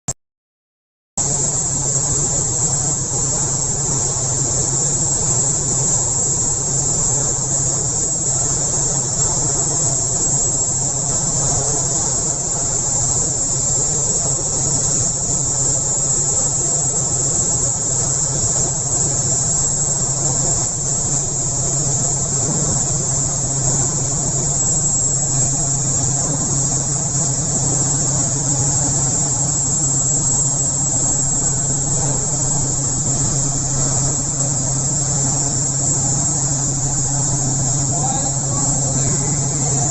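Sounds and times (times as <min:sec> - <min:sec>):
air compressor running: 0:01.2 - 0:39.9
high hiss: 0:01.2 - 0:39.9.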